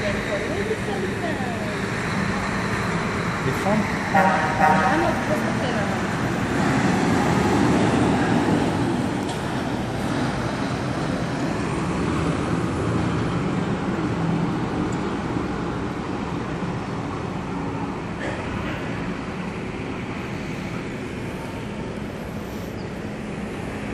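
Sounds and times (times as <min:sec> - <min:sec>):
traffic rumble with hiss: 0:00.0 - 0:23.9.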